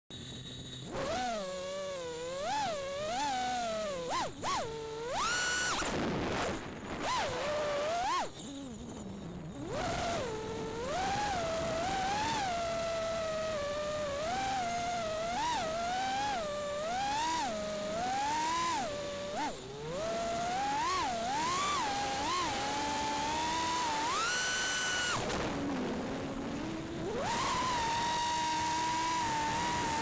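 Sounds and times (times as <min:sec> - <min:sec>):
quadcopter motors whining: 0:00.1 - 0:30.0.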